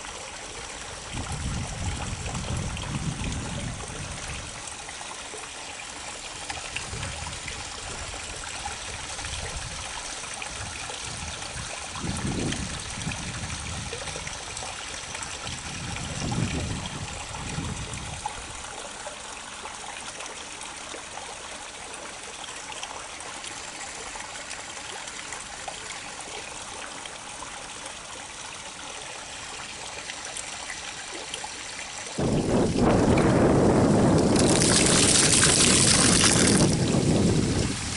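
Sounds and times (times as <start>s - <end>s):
water trickling into river: 0.0s - 37.9s.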